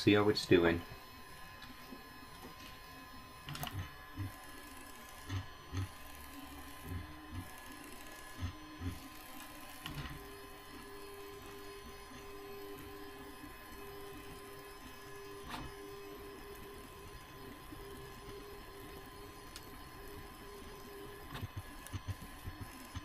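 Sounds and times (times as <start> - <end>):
printer motor pulses: 0.0 - 23.0
steady motor whine: 0.0 - 23.0.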